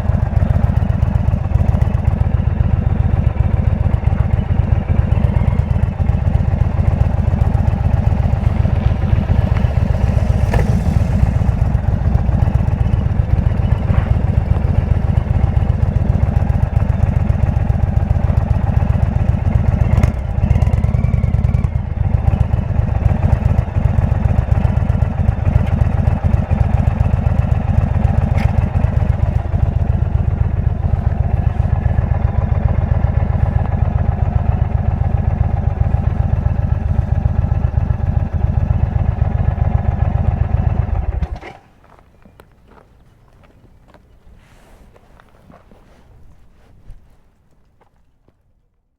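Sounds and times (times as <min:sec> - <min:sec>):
motorcycle engine running: 0:00.0 - 0:42.5.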